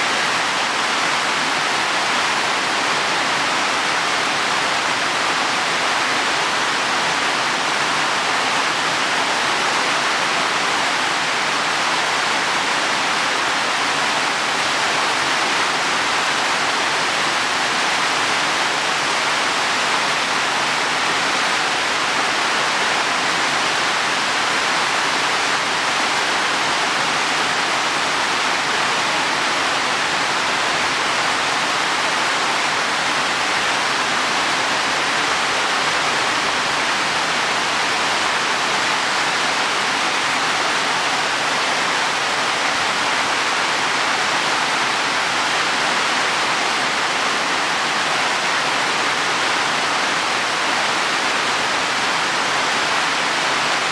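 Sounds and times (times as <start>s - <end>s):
heavy rain on leaves: 0.0s - 53.9s.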